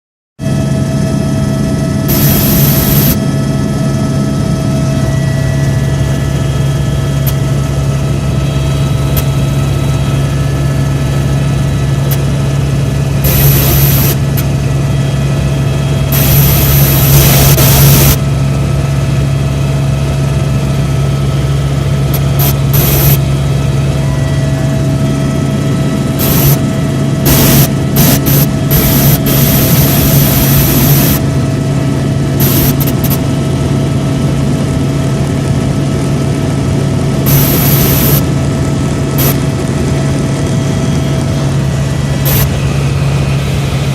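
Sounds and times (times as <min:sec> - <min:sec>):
helicopter engine and rotor: 0:00.4 - 0:43.9.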